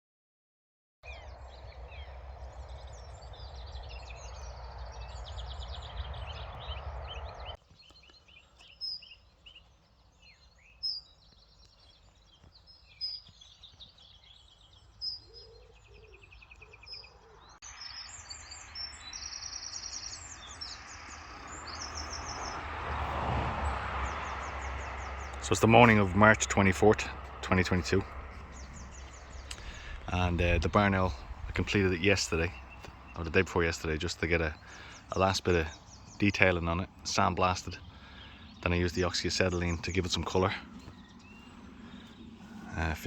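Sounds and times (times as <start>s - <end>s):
outdoor background rush: 1.0s - 43.0s
birds chirping and singing: 1.1s - 43.0s.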